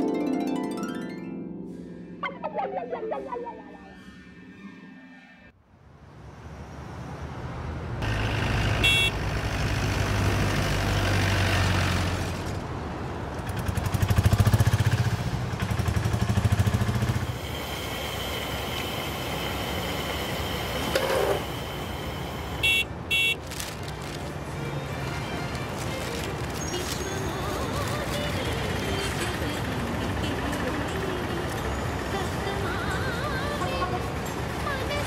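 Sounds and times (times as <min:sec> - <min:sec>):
vehicle engines rumbling past: 0:05.8 - 0:35.0.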